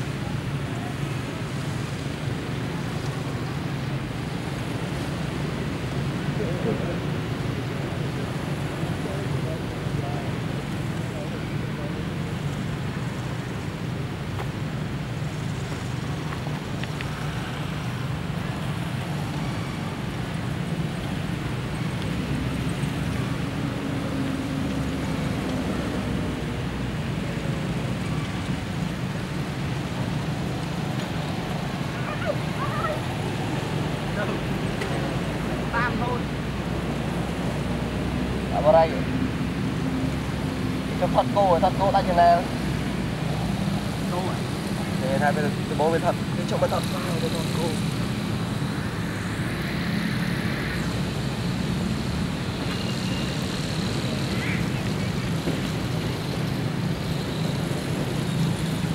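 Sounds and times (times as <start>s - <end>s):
road traffic rumble: 0.0s - 58.9s
vehicle engine hum: 0.0s - 58.9s.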